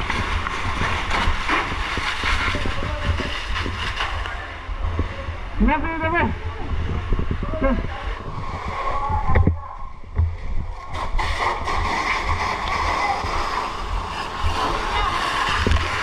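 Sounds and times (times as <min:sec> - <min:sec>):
water spraying from fire hose: 0:00.0 - 0:09.4, 0:10.6 - 0:16.0
low rumble: 0:00.0 - 0:16.0.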